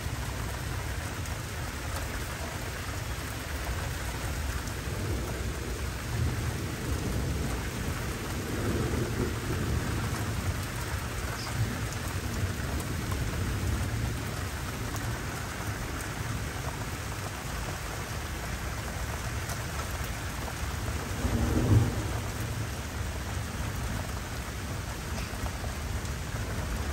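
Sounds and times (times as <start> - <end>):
steady rain falling: 0.0 - 26.9
thunder rumbling: 3.9 - 26.9.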